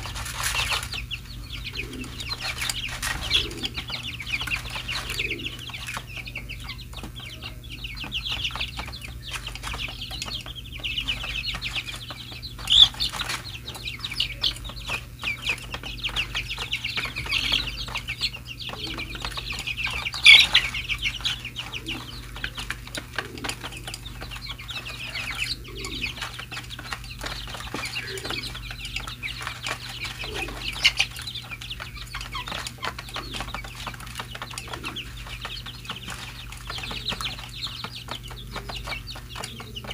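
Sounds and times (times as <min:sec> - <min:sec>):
beaks pecking plastic tray: 0:00.0 - 0:39.9
chicks peeping: 0:00.0 - 0:39.9.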